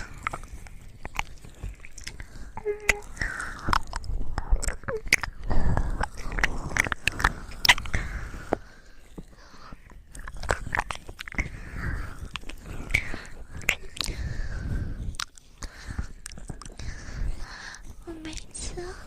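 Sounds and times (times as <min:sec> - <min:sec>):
moist clicks and smacks: 0:00.0 - 0:18.6
soft wet rustle: 0:00.0 - 0:19.0.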